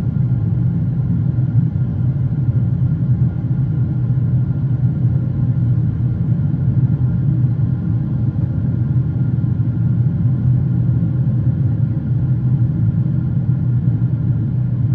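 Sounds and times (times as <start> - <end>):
aircraft cabin engine rumble: 0.0 - 14.9.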